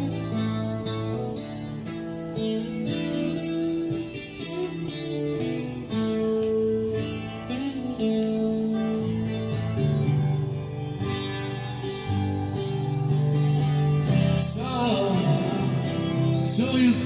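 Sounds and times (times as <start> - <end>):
acoustic guitar music from record: 0.0 - 17.0.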